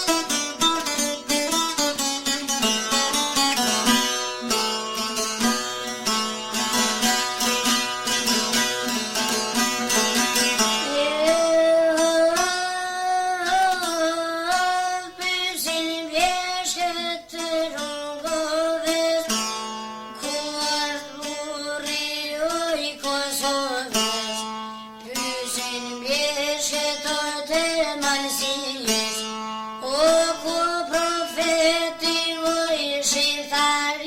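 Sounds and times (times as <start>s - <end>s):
person singing folk melody: 0.0s - 34.0s
plucked strings: 0.0s - 34.0s.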